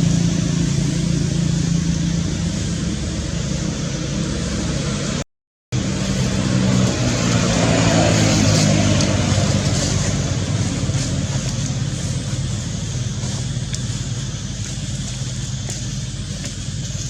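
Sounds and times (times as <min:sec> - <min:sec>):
outdoor background noise: 0:00.0 - 0:17.0
vehicle engine running: 0:00.0 - 0:17.0.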